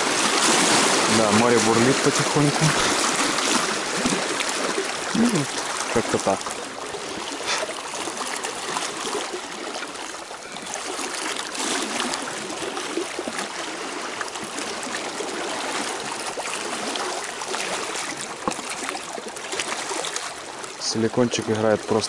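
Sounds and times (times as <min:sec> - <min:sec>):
small waves lapping and splashing: 0:00.0 - 0:22.0.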